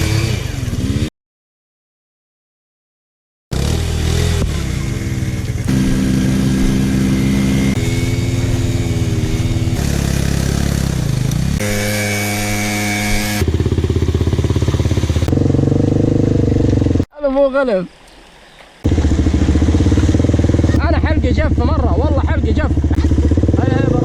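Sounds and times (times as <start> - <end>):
quad bike engine revving: 0.0 - 1.1, 3.5 - 17.1, 18.8 - 24.0.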